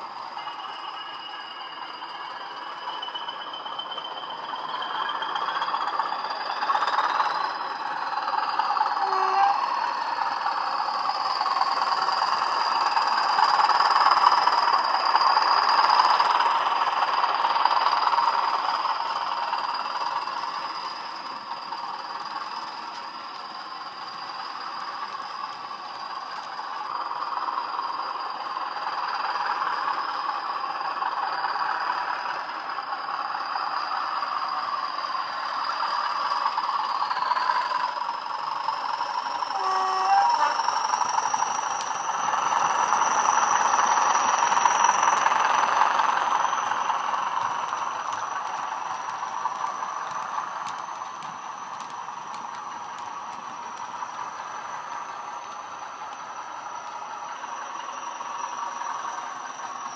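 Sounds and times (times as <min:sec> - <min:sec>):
diesel locomotive engine sound: 0:00.0 - 0:59.9
steady high whistle: 0:00.0 - 0:59.9.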